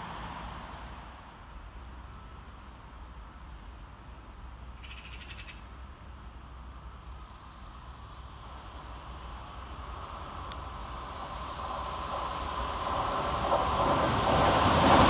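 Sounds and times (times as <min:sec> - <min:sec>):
train approaching on rails: 0:00.0 - 0:15.0.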